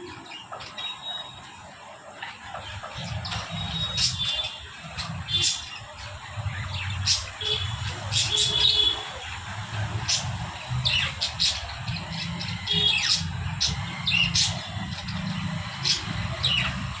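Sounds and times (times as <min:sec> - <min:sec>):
birds squawking and chirping: 0:00.0 - 0:17.0.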